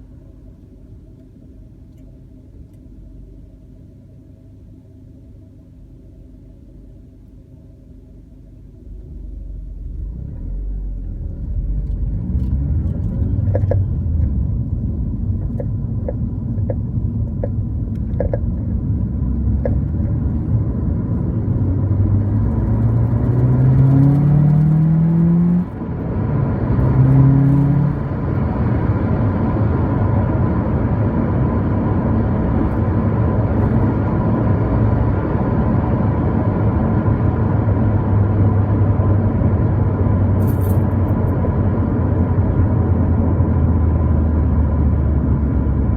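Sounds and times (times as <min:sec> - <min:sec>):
road rumble: 0:08.6 - 0:45.9
car engine accelerating: 0:09.1 - 0:45.9.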